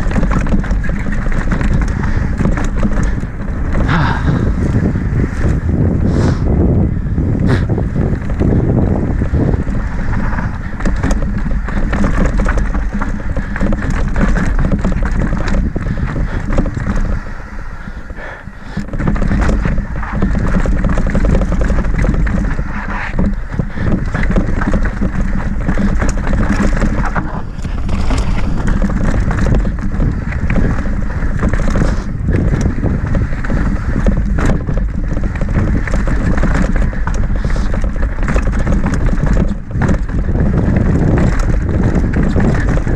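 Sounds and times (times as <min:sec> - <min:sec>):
bike knocking and rattling: 0:00.0 - 0:42.9
bike tyres rolling over dirt and rock: 0:00.0 - 0:42.9
wind buffeting on microphone: 0:00.0 - 0:42.9.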